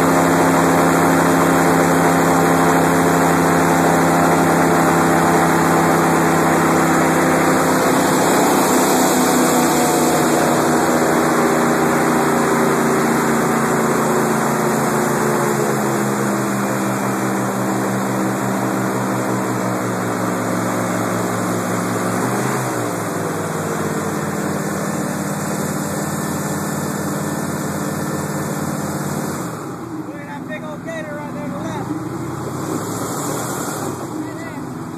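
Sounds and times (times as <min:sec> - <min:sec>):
airboat engine and propeller: 0:00.0 - 0:34.9.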